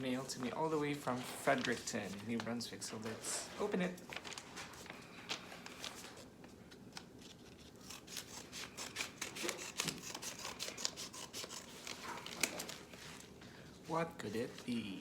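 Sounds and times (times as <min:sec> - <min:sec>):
paper rustling and crinkling: 0:00.0 - 0:14.9.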